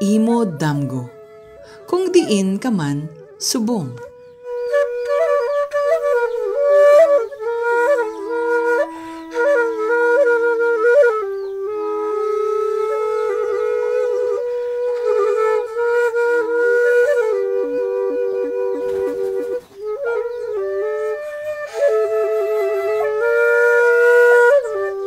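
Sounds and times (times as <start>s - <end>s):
solo flute melody: 0.0s - 25.0s.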